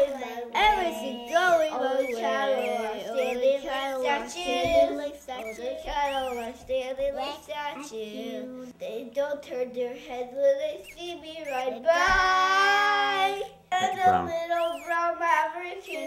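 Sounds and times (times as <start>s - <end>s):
children singing: 0.0s - 8.8s, 10.8s - 16.0s.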